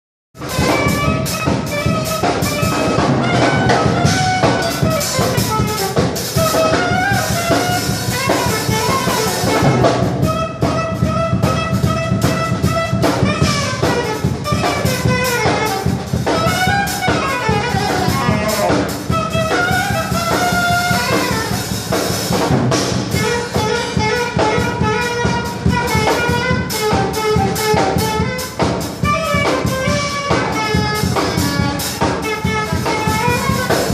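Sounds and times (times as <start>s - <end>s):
saxophone playing jazzy melody: 0.4s - 33.9s
steady drum beat: 0.4s - 33.9s.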